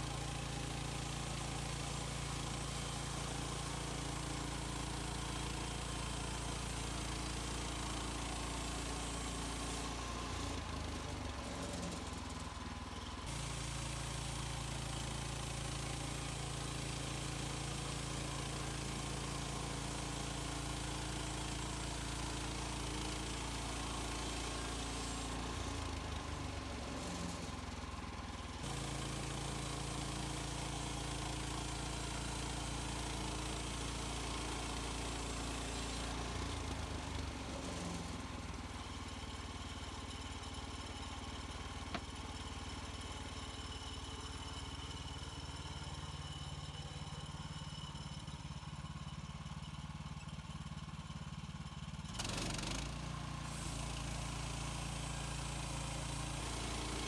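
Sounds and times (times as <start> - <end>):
sawmill gas engine running: 0.0 - 57.0.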